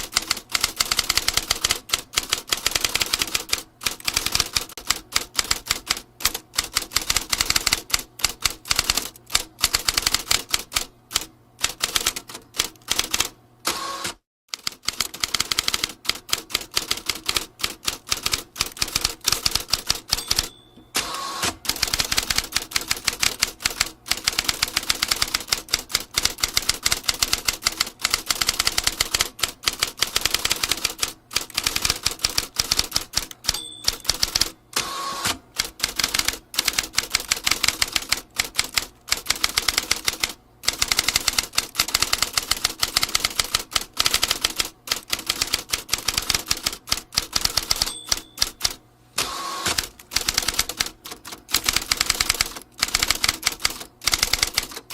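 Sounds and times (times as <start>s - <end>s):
typewriter keys striking fast: 0.0s - 13.4s, 14.5s - 20.6s, 21.6s - 34.6s, 35.6s - 48.8s, 49.6s - 54.9s.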